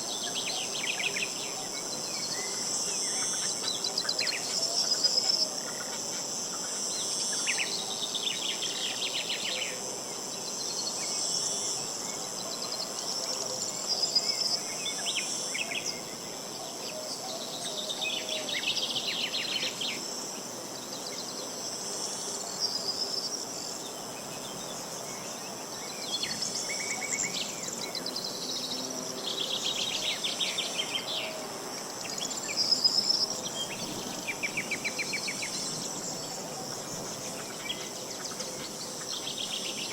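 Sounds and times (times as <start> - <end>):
insect trills: 0.0 - 39.9.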